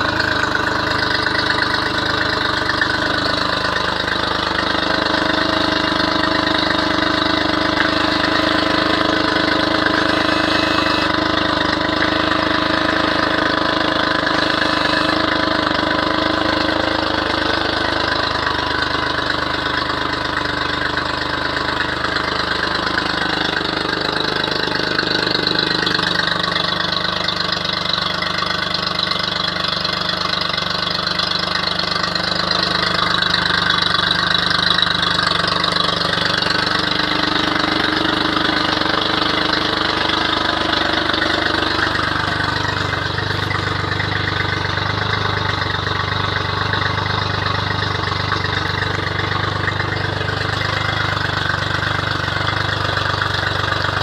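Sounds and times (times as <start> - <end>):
outboard engine idling: 0.0 - 54.0.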